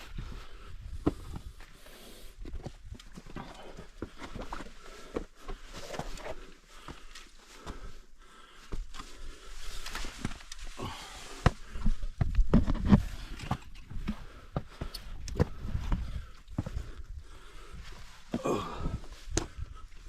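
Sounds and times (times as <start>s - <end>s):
footsteps on mountain path: 0.1s - 20.0s.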